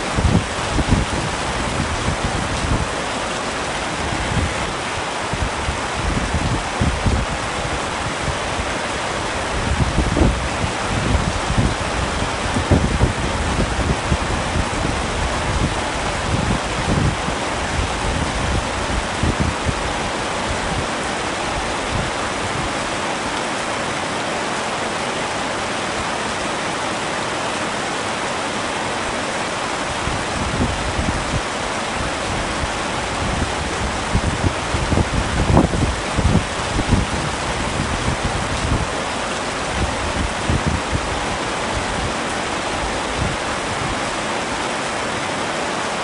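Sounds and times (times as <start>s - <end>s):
heavy rain: 0.0s - 46.0s.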